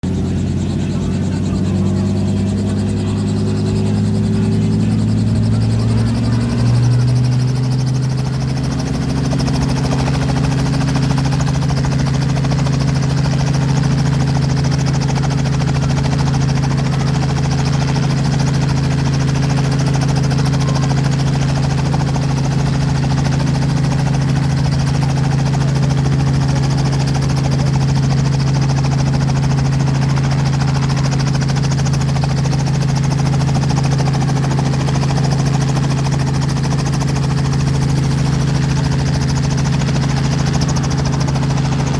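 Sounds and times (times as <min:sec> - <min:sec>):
helicopter running: 0:00.0 - 0:41.9.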